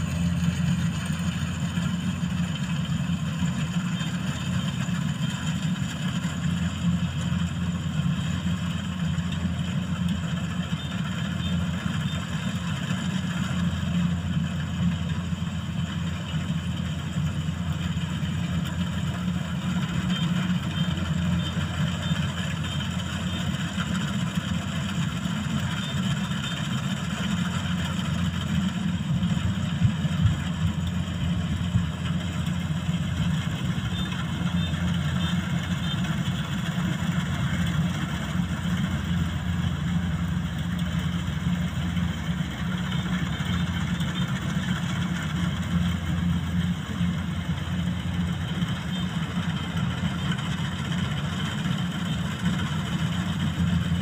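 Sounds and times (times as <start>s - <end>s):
diesel engine running: 0.0s - 54.0s
threshing machinery hum: 0.0s - 54.0s.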